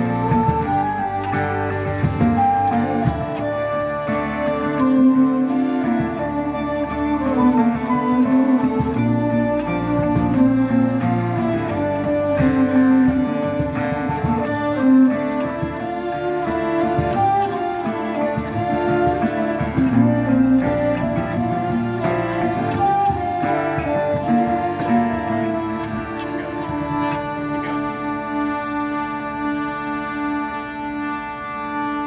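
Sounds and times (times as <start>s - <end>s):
band playing instrumental music: 0.0s - 28.6s.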